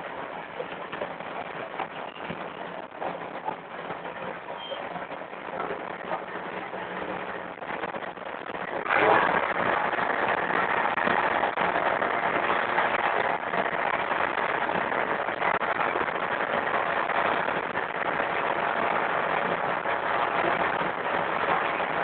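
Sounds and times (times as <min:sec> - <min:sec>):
heavy diesel machinery running: 0:00.0 - 0:22.0.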